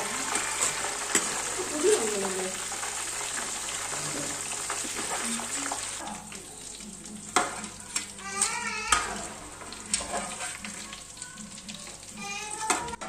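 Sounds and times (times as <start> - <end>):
banana slices sizzling in oil: 0.0 - 13.0.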